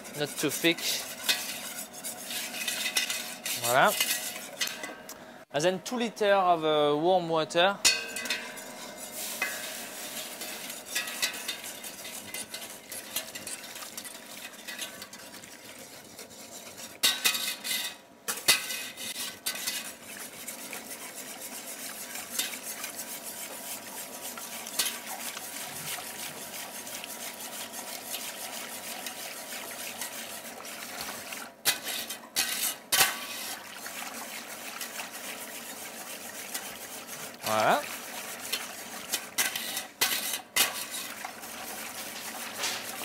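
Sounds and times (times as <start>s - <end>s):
whisk scraping a metal pot: 0.0s - 4.9s, 8.0s - 43.0s.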